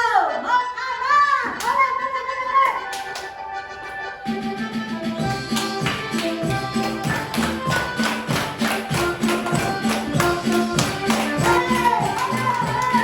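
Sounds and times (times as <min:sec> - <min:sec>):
upbeat background music: 0:02.0 - 0:13.0.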